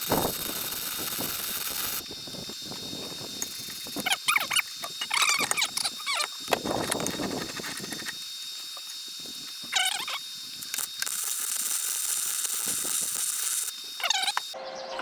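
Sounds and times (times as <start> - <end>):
arc welder hissing and crackling: 0.0 - 14.6.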